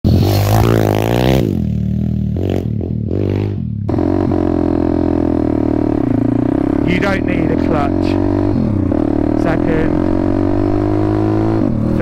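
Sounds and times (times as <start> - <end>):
motorbike engine revving: 0.1 - 12.0.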